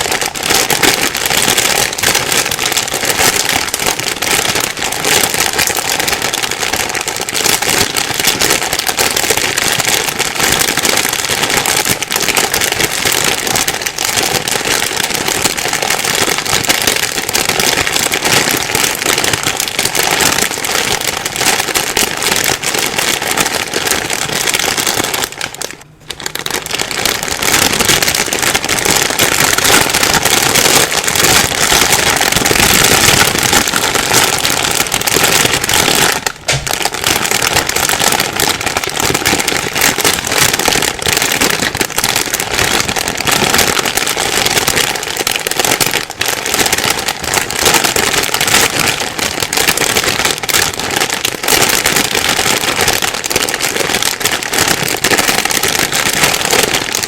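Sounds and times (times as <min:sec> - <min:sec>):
plastic bag rustling and crumpling: 0:00.0 - 0:57.0.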